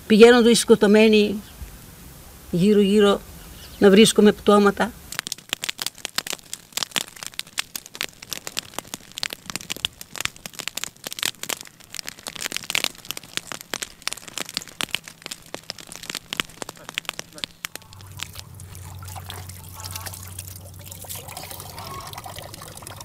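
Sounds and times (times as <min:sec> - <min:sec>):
grass fire crackling and popping: 0:01.6 - 0:23.0.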